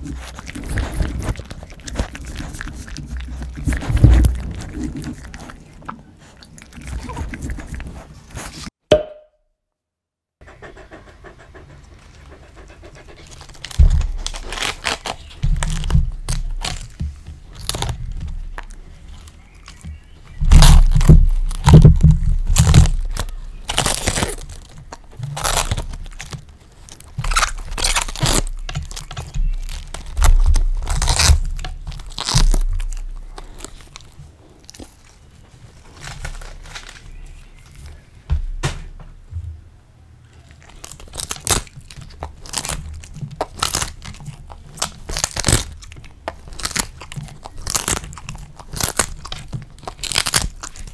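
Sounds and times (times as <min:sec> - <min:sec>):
dog chewing cabbage leaves: 0:00.0 - 0:08.7, 0:10.4 - 0:38.1, 0:40.4 - 0:50.9.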